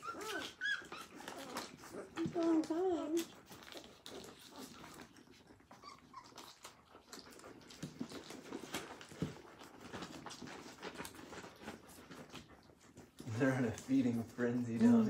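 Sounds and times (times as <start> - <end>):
puppies clicking and shuffling: 0.0 - 15.0
puppies whimpering and squeaking: 0.0 - 15.0.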